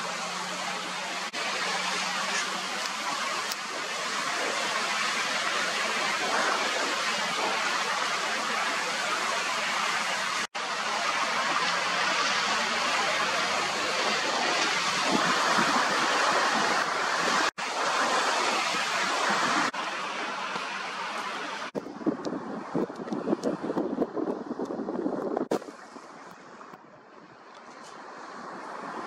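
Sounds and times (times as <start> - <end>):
rushing wind: 0.0 - 29.0.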